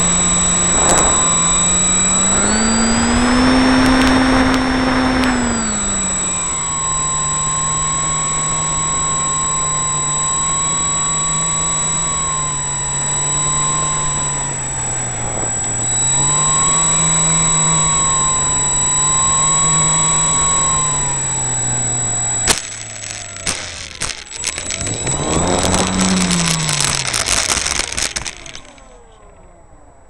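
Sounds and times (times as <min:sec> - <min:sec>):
small airplane propeller droning: 0:00.0 - 0:30.0.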